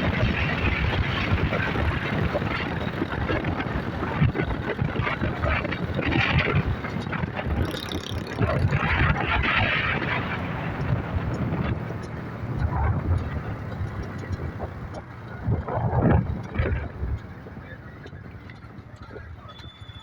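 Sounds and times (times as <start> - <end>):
motorcycle engine rumble: 0.0 - 20.0
road noise: 0.0 - 20.0
wind buffeting microphone: 0.0 - 20.0.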